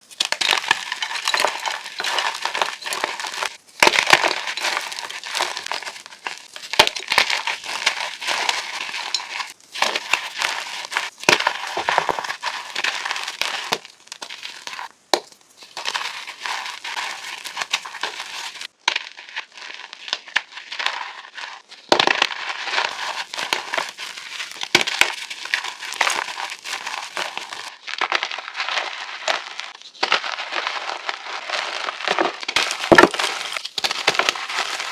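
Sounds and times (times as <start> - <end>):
chalk blocks being crushed: 0.0 - 34.9.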